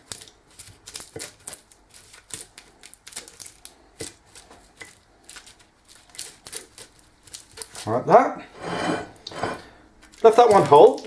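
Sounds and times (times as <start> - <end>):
potato being mashed: 0.0 - 11.0.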